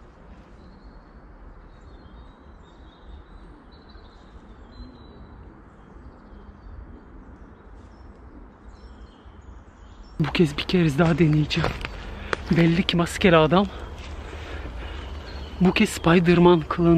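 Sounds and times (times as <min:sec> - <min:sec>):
steady low rumble and hiss: 0:00.0 - 0:16.9
faint high bird chirps: 0:00.4 - 0:16.9.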